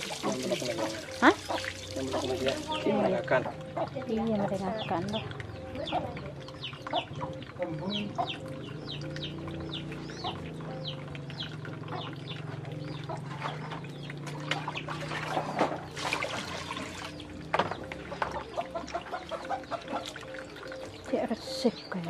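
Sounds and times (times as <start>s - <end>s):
chickens clucking and peeping: 0.2s - 22.0s.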